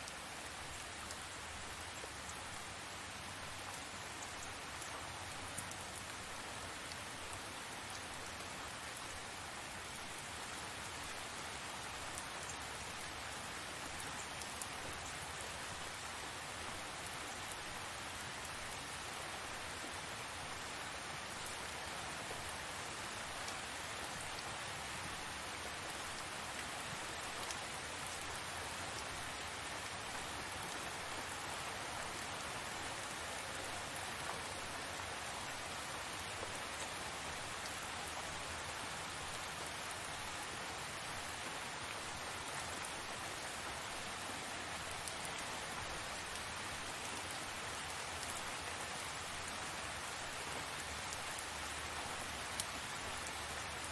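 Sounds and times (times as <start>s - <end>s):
faint ticks of raindrops: 0.0s - 53.9s
steady rain falling: 0.0s - 53.9s.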